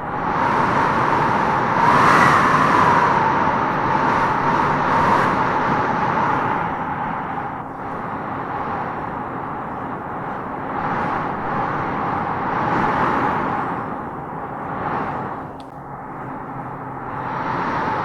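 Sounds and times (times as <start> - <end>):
wind howling through trees: 0.0 - 18.0.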